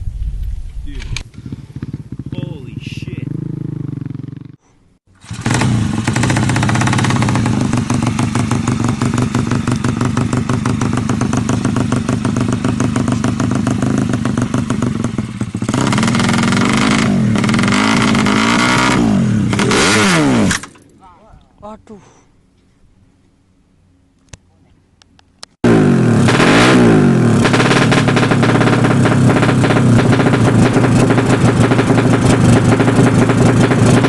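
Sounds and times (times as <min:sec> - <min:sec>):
motorcycle engine revving: 0:00.0 - 0:20.8, 0:25.6 - 0:34.0.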